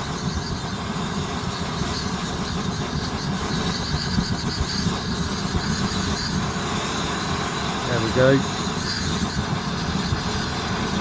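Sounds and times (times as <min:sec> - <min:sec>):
petrol burner rough rumble: 0:00.0 - 0:11.0.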